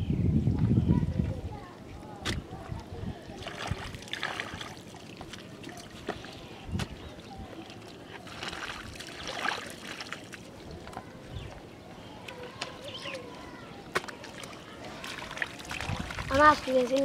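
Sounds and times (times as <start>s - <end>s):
muddy water sloshing and splashing: 2.2s - 17.0s.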